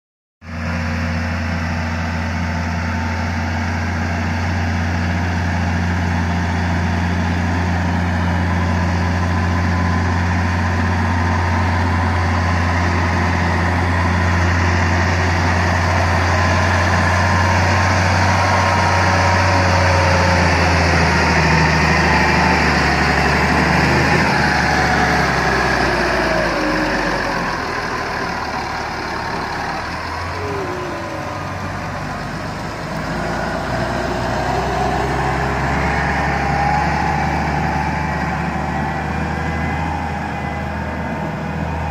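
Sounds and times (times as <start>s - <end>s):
tractor diesel engine running: 0.4s - 41.9s.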